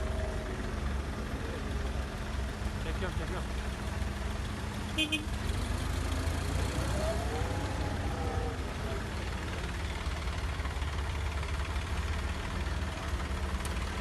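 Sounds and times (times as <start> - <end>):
heavy vehicle engines rumbling: 0.0 - 14.0.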